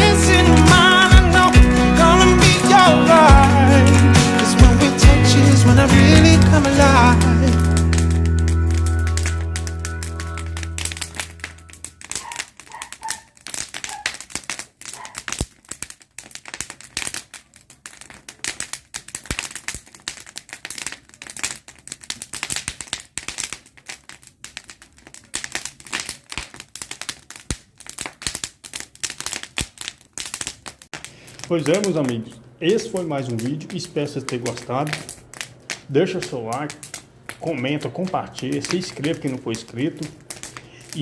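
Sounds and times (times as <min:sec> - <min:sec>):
bonfire crackling: 0:00.0 - 0:41.0.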